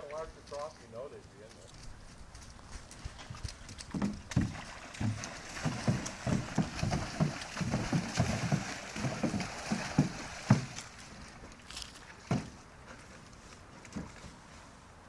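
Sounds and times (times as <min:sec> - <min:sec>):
horses splashing water in trough: 0:00.0 - 0:15.0.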